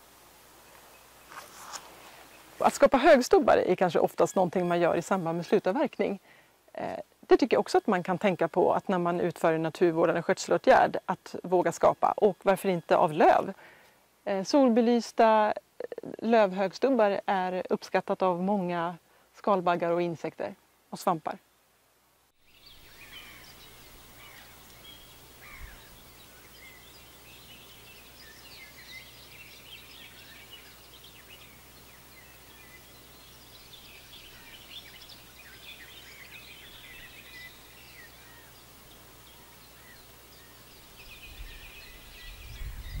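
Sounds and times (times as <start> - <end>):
small birds singing: 0.0 - 13.8, 22.4 - 43.0
faint background hiss: 0.0 - 43.0.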